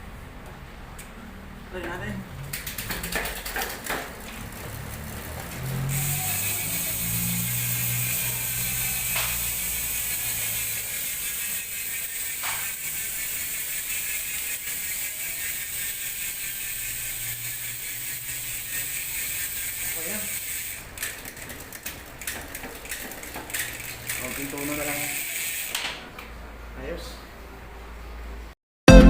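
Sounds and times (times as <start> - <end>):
bicycle hub ratcheting buzz: 2.4 - 26.0.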